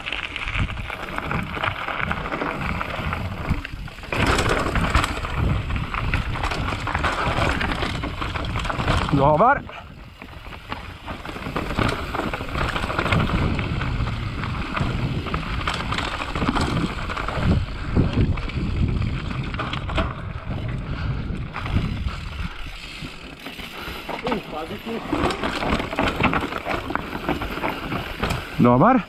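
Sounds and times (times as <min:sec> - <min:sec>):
bike rattling: 0:00.0 - 0:29.0
bike tyres rolling over dirt: 0:00.0 - 0:29.0
wind buffeting microphone: 0:00.4 - 0:24.1.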